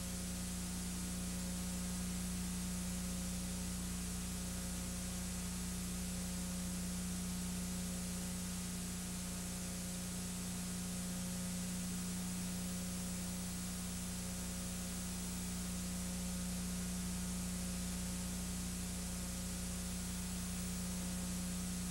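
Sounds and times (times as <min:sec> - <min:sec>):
low electrical hum: 0:00.0 - 0:21.9.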